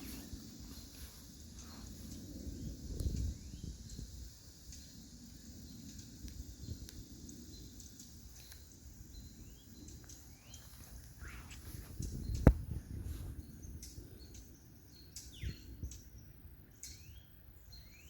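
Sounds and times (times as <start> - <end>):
steady low rumble: 0.0 - 16.0
birds chirping: 0.0 - 18.0.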